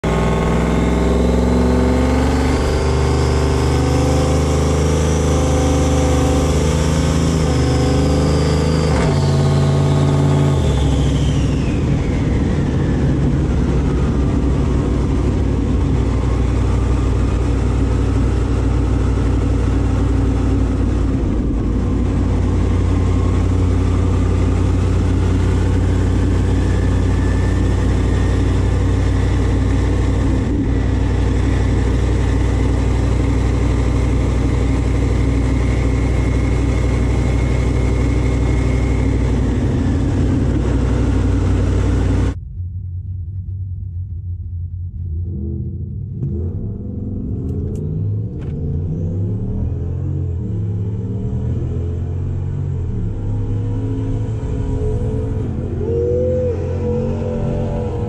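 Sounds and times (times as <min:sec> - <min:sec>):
turbocharger whistling: 0:00.0 - 0:42.4, 0:45.2 - 0:58.0
truck engine running: 0:00.0 - 0:51.1, 0:51.9 - 0:58.0.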